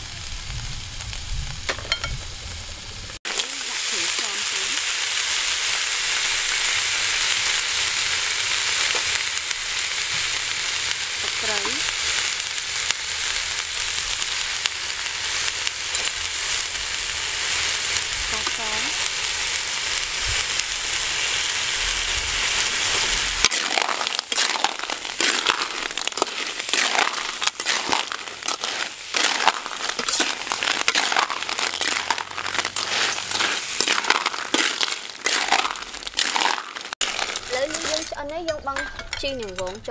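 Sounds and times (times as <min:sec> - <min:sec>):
snails sizzling in a wok: 0:00.0 - 0:39.9
shells scraping against a pan: 0:03.3 - 0:21.4, 0:22.4 - 0:39.9.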